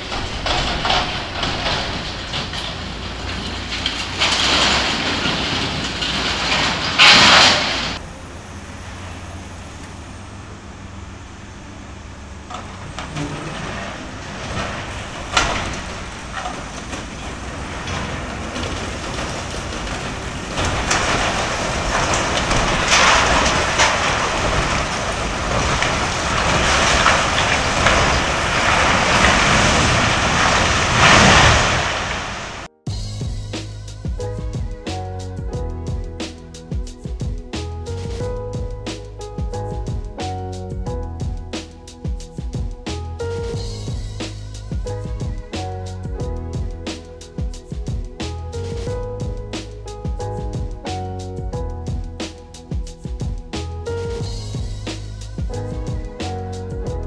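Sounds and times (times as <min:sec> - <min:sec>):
sheet metal crashing and grinding: 0:00.0 - 0:09.5, 0:12.5 - 0:57.0
excavator engine running: 0:00.0 - 0:57.0.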